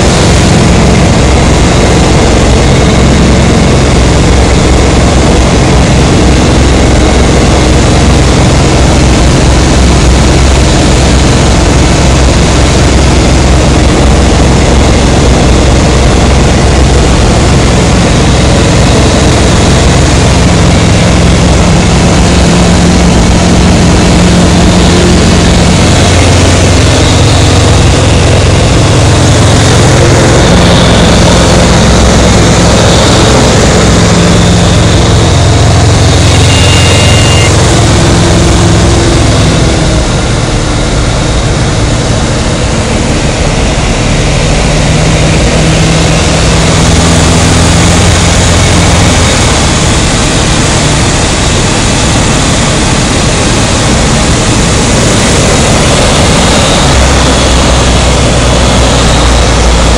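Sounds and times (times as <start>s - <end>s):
airflow noise: 0.0s - 59.9s
propeller engine drone: 0.0s - 59.9s.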